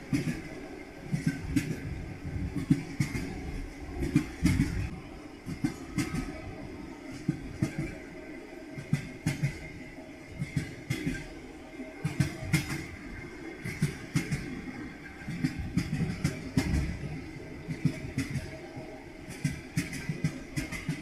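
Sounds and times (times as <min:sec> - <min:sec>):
train wheels clattering: 0:00.0 - 0:21.0.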